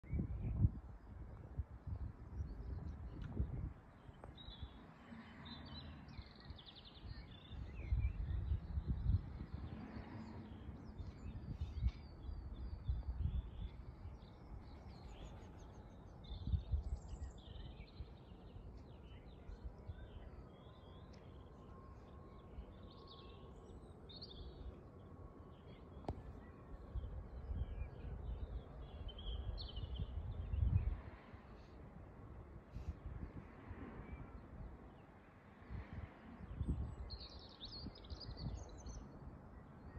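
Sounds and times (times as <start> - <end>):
low rumble in gusts: 0.0 - 4.8, 7.0 - 31.5, 35.7 - 38.9
small birds chirping: 1.9 - 30.9, 36.5 - 39.9.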